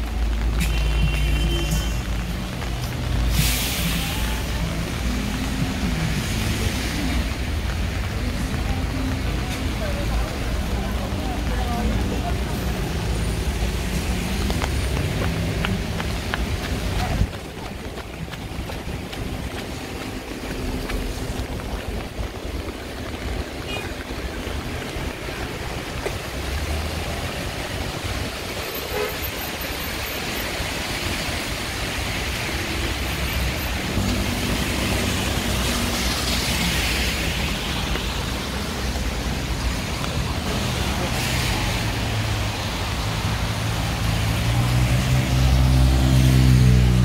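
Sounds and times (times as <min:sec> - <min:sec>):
heavy rain: 0:00.0 - 0:47.0
tyres hissing on wet road: 0:00.0 - 0:47.0
car engines running: 0:01.8 - 0:47.0.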